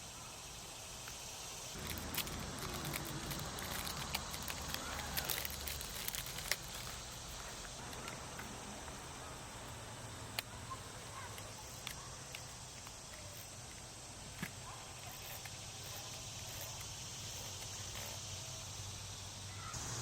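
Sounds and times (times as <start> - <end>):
low steady hiss: 0.0 - 20.0.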